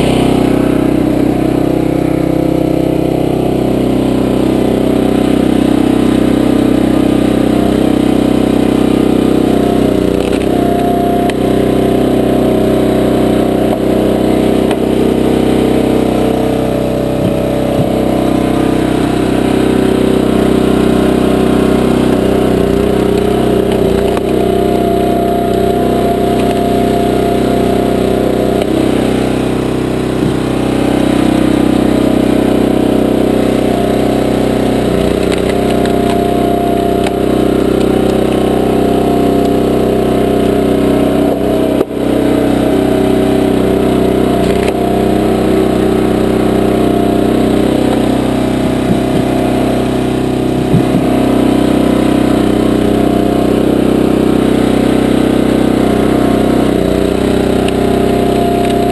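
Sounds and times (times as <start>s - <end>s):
small gasoline engine running: 0.0s - 58.9s.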